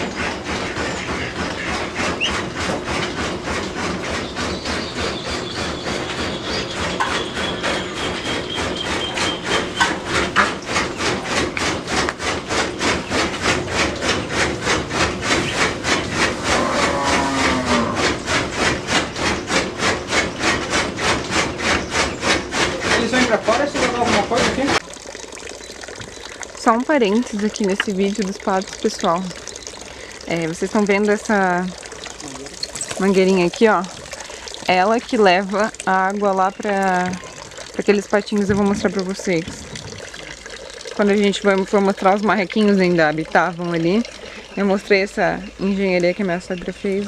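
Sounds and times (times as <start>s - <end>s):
rapid rasping knocking rhythm: 0.0s - 47.0s.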